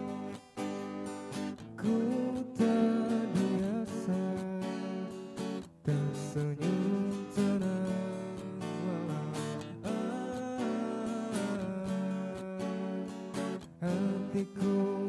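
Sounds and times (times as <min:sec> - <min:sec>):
acoustic guitar strummed: 0:00.0 - 0:15.0.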